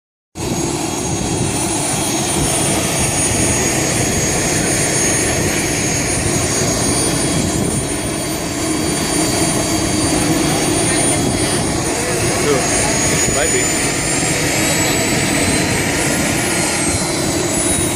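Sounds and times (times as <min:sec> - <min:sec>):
high jet whine: 0:00.4 - 0:17.9
model jet engine rushing: 0:00.4 - 0:17.9.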